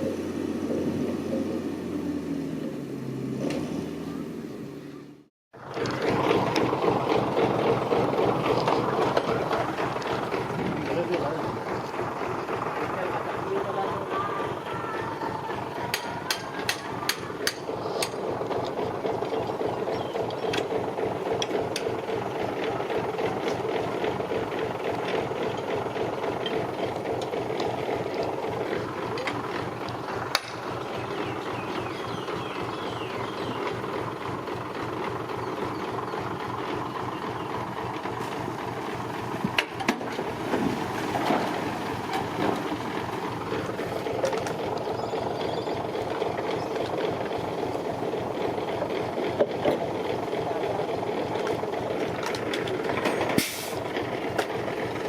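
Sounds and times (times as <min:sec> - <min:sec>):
diesel engine with metallic rattle: 0:00.0 - 0:55.0.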